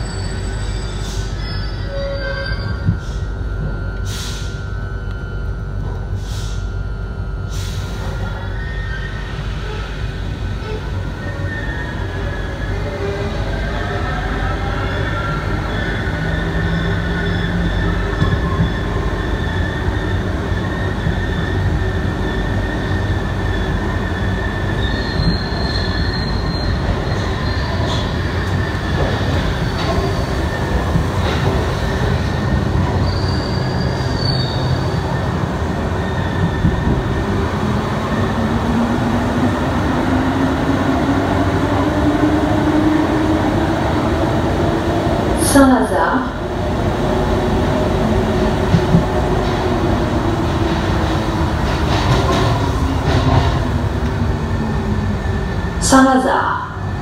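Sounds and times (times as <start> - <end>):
train rumbling through tunnel: 0.0 - 57.0.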